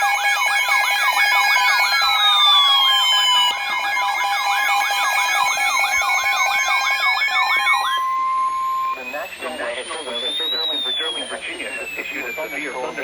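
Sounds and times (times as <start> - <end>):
fast siren yelp: 0.0 - 13.0
slow siren wail: 0.0 - 13.0
steady electronic tone: 0.0 - 13.0.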